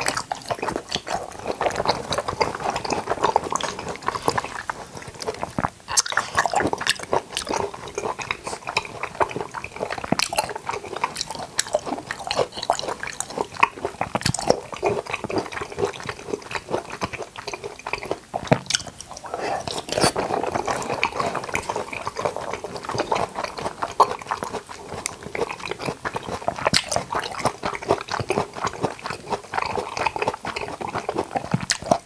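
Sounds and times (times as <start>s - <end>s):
wet chewing: 0.0s - 32.0s.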